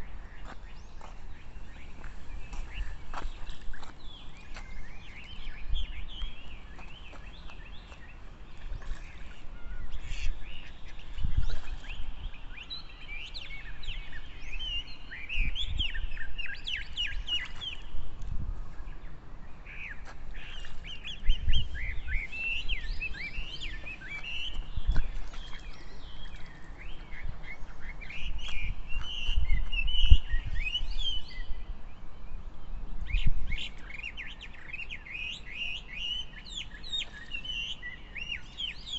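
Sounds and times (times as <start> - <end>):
birds chirping: 0.0 - 18.1, 18.7 - 38.9.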